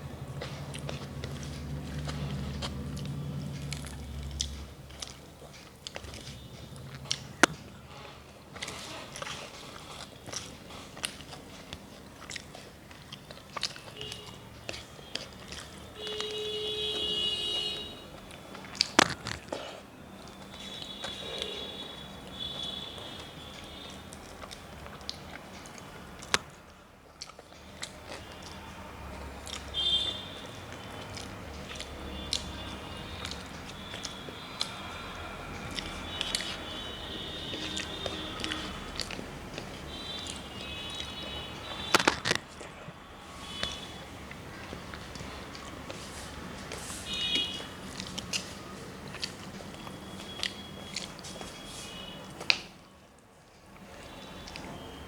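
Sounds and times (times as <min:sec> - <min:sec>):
chewing food: 0:00.0 - 0:55.0.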